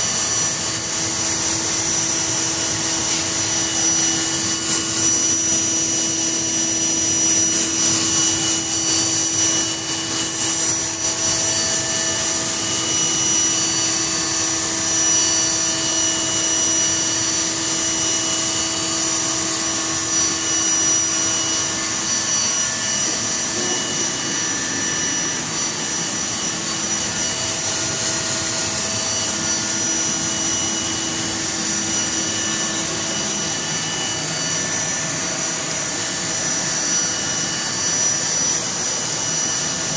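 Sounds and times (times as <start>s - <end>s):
roaster blower and burner whine: 0.0s - 39.9s.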